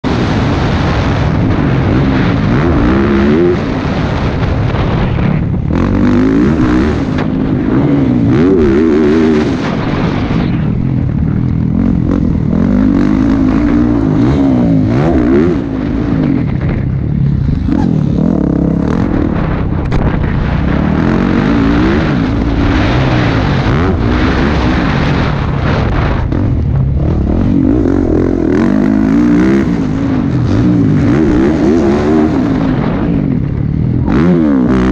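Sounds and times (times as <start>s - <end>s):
motocross bike engine revving: 0.1s - 34.9s.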